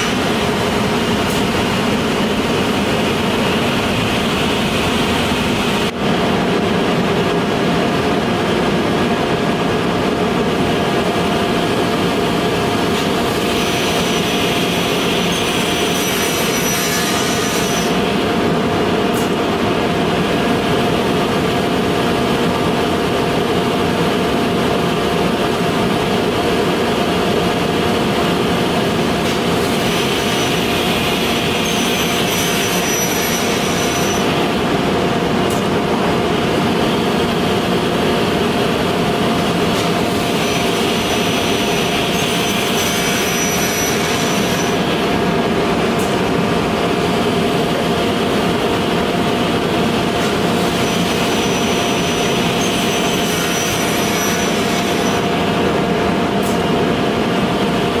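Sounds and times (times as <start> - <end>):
panel saw machine drone: 0.0 - 58.0.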